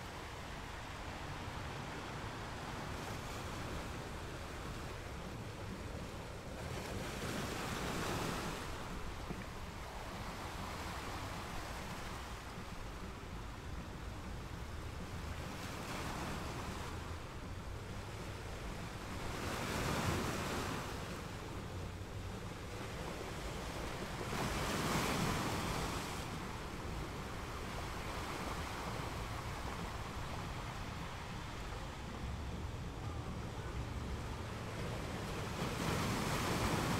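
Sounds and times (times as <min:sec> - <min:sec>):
sea waves breaking on shore: 0:00.0 - 0:36.9.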